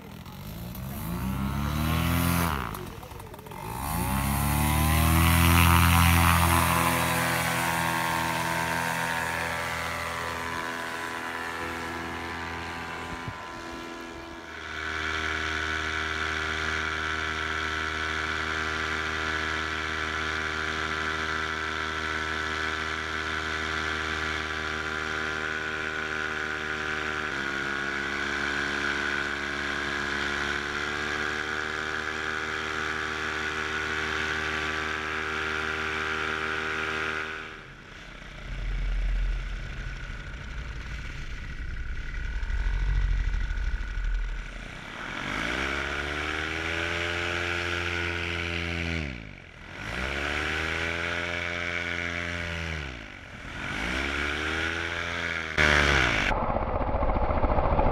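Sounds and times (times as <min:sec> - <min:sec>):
paramotor engine revving: 0:00.0 - 0:57.9.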